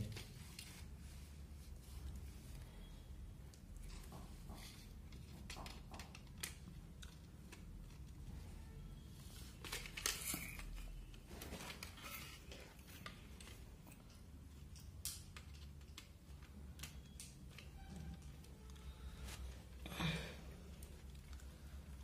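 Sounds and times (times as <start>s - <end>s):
wires being handled: 0.0s - 22.0s.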